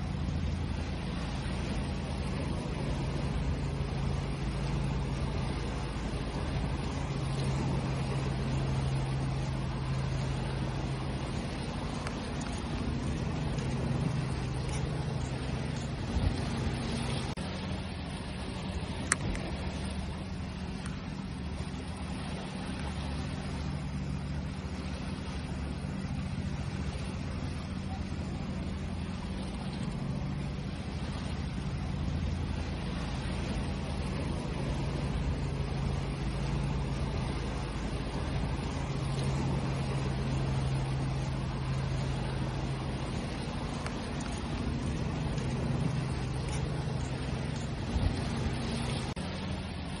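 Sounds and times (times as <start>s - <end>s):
low engine drone: 0.0s - 50.0s
waves washing: 0.0s - 50.0s.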